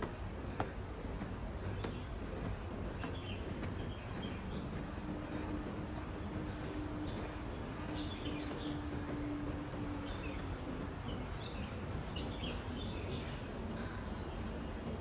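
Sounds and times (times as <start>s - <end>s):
faint steady hum: 0.0s - 15.0s
insects droning: 0.0s - 15.0s
low background rumble: 0.0s - 15.0s.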